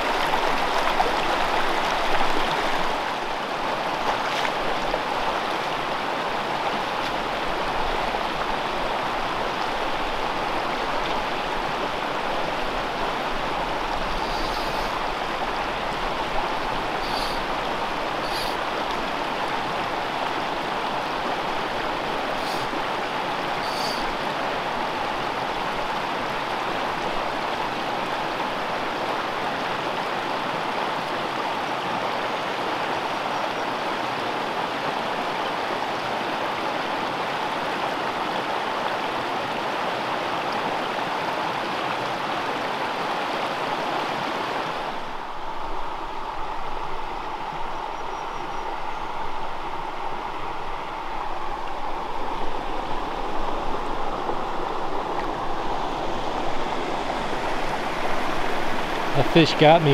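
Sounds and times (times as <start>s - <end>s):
mountain stream flowing: 0.0s - 59.9s.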